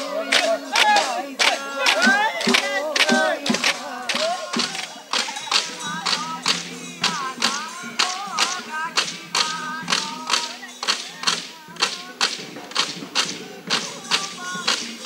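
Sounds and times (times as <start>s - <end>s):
bamboo clappers clacking: 0.0s - 15.0s
people singing: 0.0s - 15.0s.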